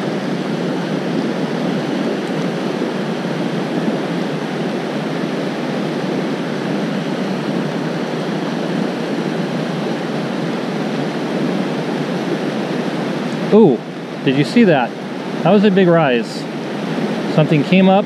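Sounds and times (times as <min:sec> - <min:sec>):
river rushing over rapids: 0:00.0 - 0:18.0.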